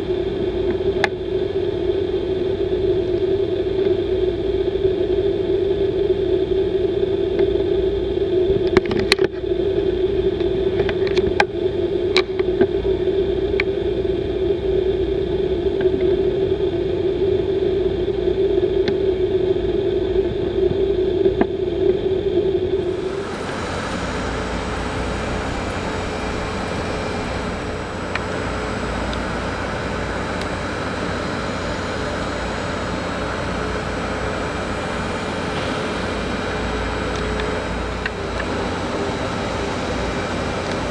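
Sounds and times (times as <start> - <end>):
jet engine roar: 0.0 - 40.9
jet engine whine: 0.0 - 40.9.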